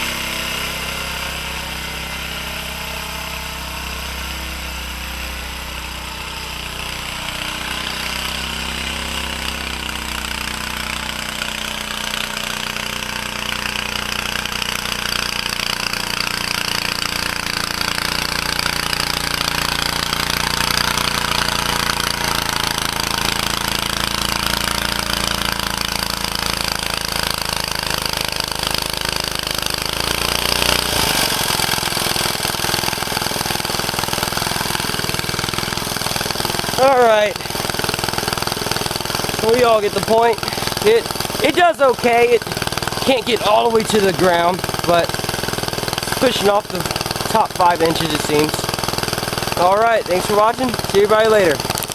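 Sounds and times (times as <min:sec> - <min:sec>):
small engine running under load: 0:00.0 - 0:51.9.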